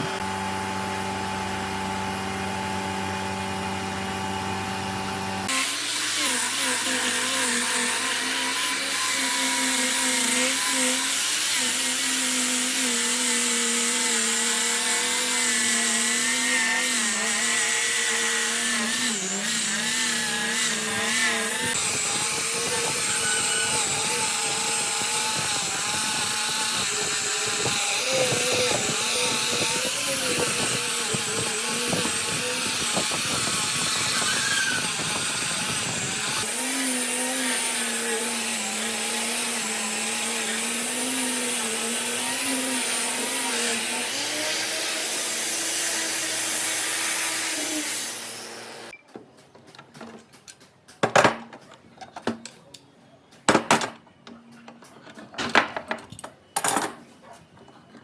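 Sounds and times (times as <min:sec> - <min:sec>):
woodworking power tool running: 0:00.0 - 0:49.0.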